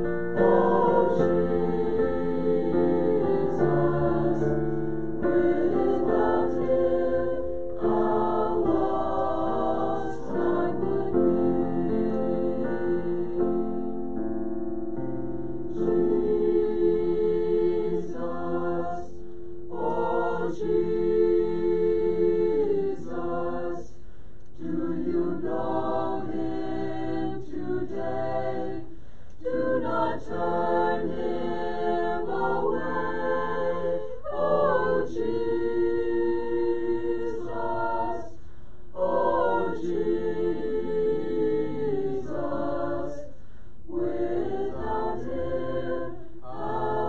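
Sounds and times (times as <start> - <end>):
choir singing a hymn: 0.0 - 14.3, 15.5 - 47.0.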